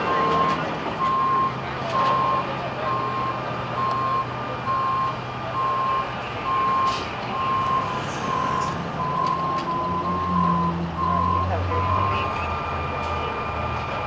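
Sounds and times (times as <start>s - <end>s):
engine humming: 0.0s - 14.0s
truck back-up alarm beeping: 0.0s - 14.0s.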